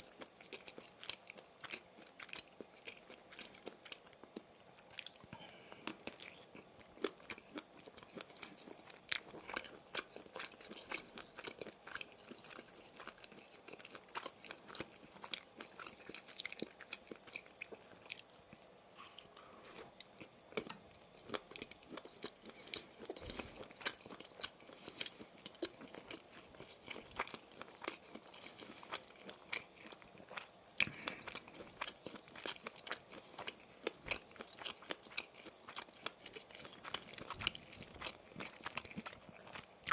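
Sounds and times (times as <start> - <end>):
chewing and biting sausage sticks: 0.0 - 39.9.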